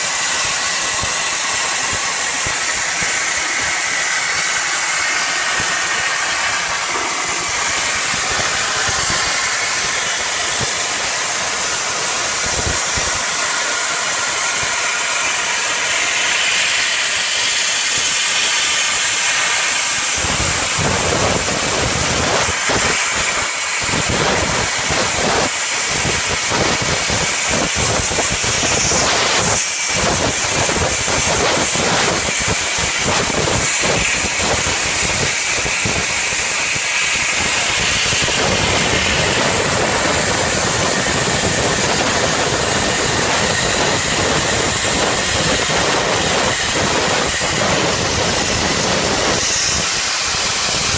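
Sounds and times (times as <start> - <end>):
plasma torch hissing: 0.0 - 50.9.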